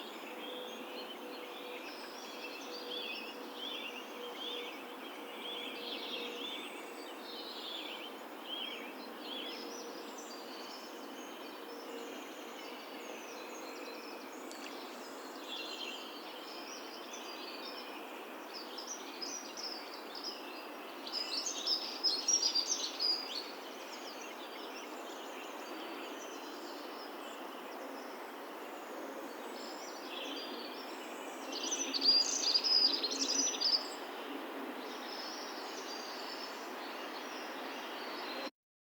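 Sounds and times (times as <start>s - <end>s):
rural outdoor background hiss: 0.0s - 38.5s
wild birds singing and chirping: 0.0s - 38.5s.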